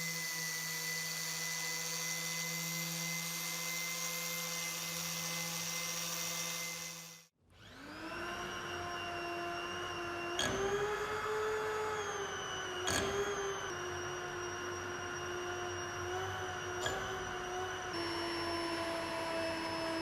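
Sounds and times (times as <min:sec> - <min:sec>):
power tool motor running: 0:00.0 - 0:20.0.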